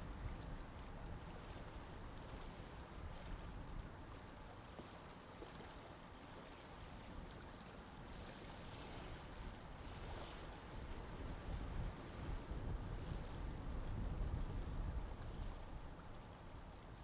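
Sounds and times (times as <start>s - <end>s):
water lapping: 0.0s - 17.0s.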